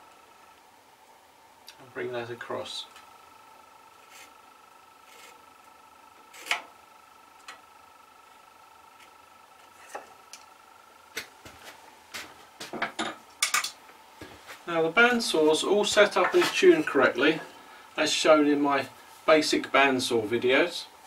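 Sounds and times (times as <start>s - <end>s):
faint high hum: 0.0s - 21.0s.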